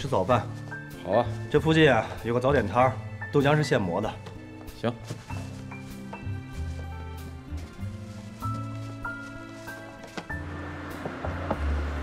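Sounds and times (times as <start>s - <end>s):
soft music with deep bass: 0.0s - 12.0s.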